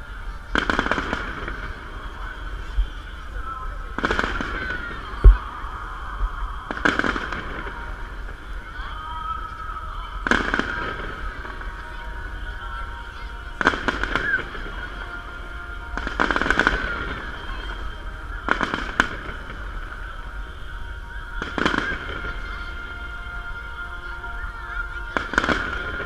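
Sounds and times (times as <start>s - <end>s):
firework bangs and crackles: 0.0s - 26.0s.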